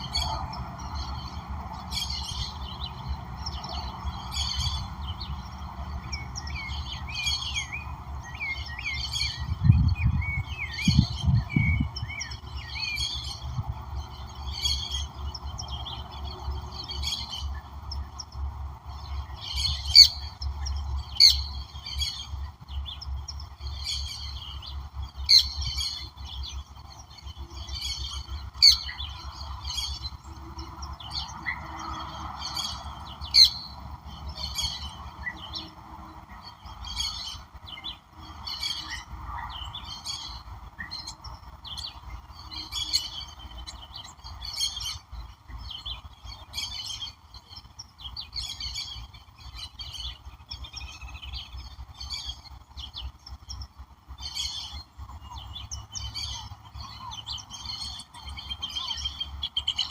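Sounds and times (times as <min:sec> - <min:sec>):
wild birds chirping: 0:00.0 - 0:59.9.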